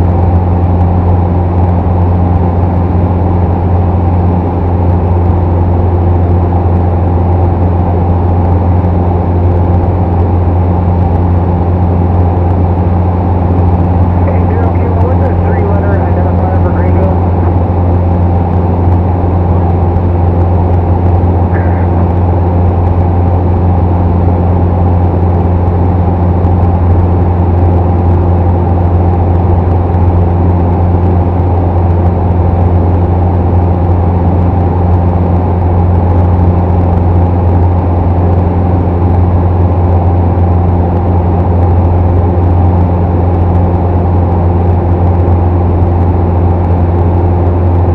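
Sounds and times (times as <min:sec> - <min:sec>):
propeller airplane engine droning: 0:00.0 - 0:47.9.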